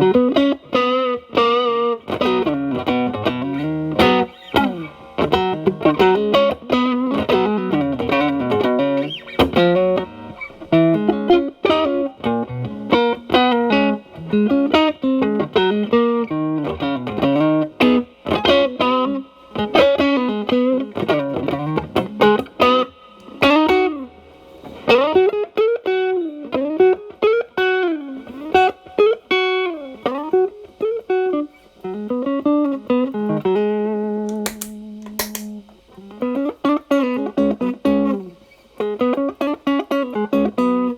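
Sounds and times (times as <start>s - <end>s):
overdriven electric guitar blues lead: 0.0s - 40.9s.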